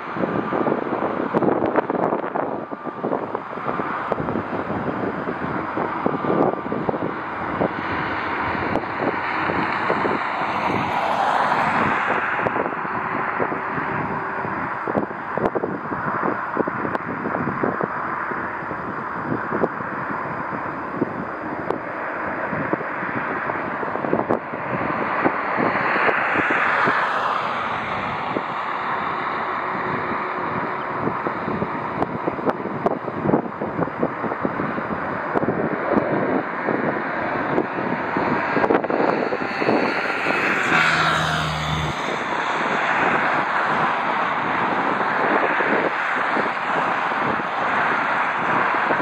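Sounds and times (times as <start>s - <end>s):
jet airliner engine noise: 0.0s - 49.0s
wind buffeting microphone: 0.0s - 49.0s.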